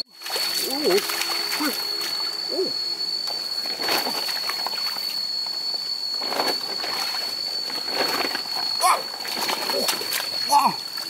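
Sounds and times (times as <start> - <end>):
short gliding calls: 0.0 - 11.0
steady high-pitched tone: 0.0 - 11.0.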